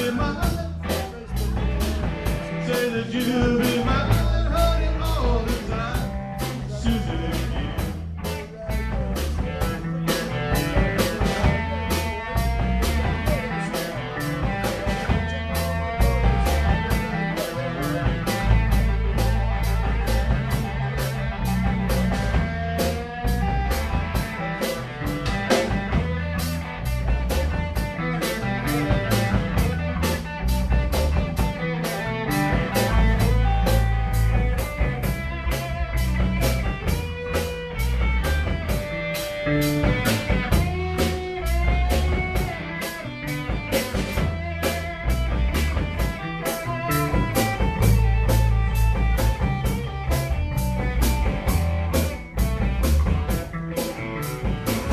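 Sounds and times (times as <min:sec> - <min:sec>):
bass guitar: 0:00.0 - 0:54.9
drum kit beat: 0:00.0 - 0:54.9
electric guitar: 0:00.0 - 0:54.9.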